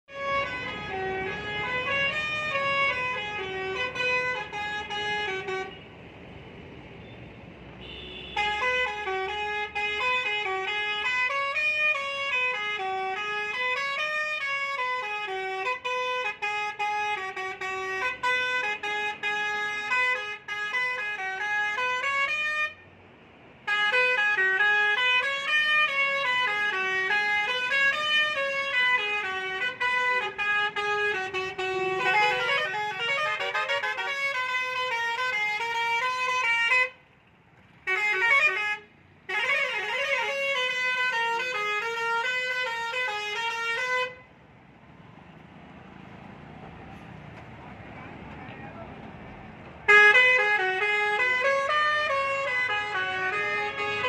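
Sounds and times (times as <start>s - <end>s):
musical truck horn melody: 0.0s - 5.8s, 7.8s - 22.9s, 23.6s - 37.2s, 37.8s - 44.3s, 49.8s - 54.0s.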